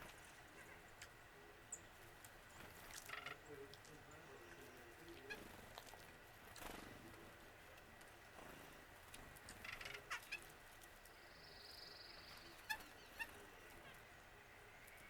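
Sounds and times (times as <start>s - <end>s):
faint wild birds calling: 0.0s - 15.0s.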